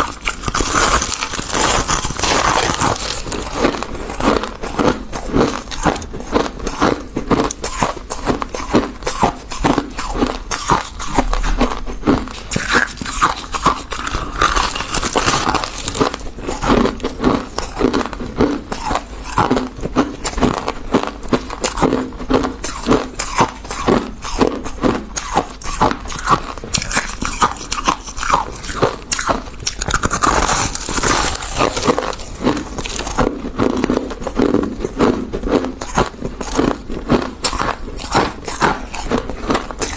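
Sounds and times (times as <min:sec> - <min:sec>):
frost being chewed crunching: 0:00.0 - 0:39.9.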